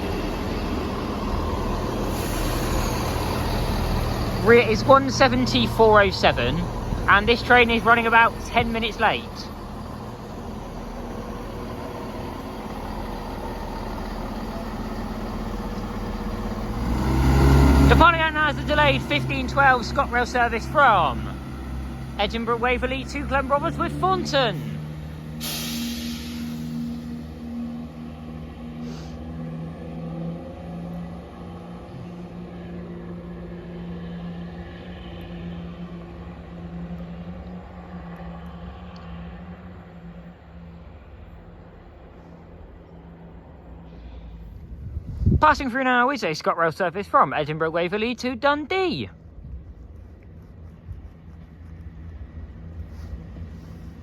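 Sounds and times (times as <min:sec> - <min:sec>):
diesel train engines idling: 0:00.0 - 0:54.0.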